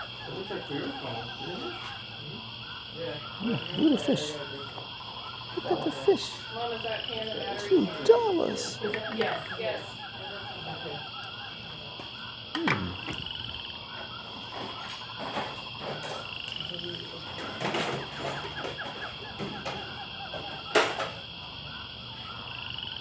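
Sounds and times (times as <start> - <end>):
frog-like croaking chirps: 0.0 - 23.0.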